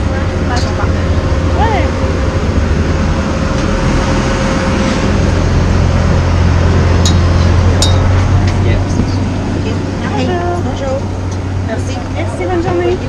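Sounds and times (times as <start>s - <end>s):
aircraft machinery drone: 0.0s - 13.0s.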